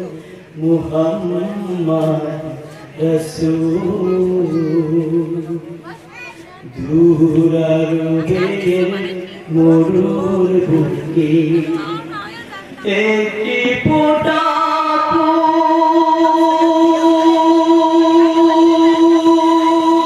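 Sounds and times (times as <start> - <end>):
young man singing into microphone: 0.0 - 6.0, 6.6 - 20.0.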